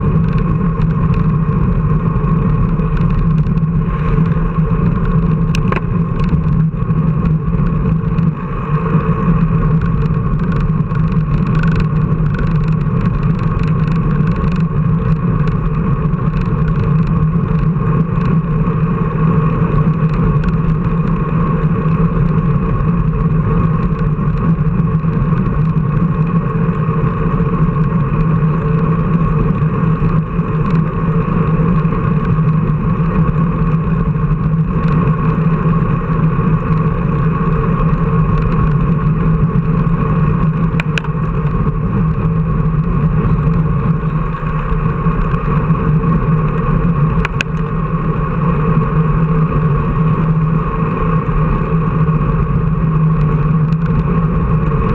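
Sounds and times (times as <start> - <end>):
engine droning steadily: 0.0 - 54.9.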